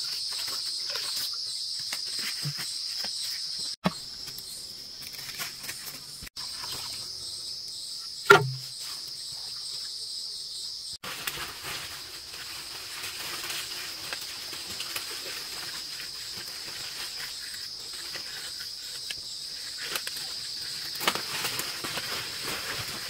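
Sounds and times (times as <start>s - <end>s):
insect chorus droning: 0.0s - 23.0s.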